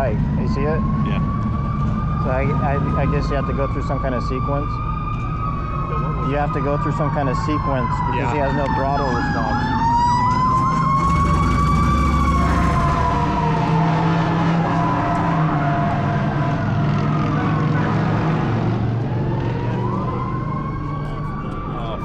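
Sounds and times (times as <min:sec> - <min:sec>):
emergency vehicle siren wailing: 0:00.0 - 0:22.0
low engine hum: 0:00.0 - 0:22.0.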